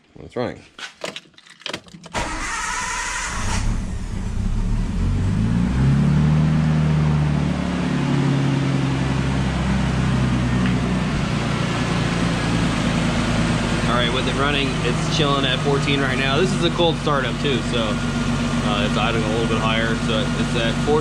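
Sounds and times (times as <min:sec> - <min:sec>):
car engine starting and idling: 0:02.1 - 0:21.0.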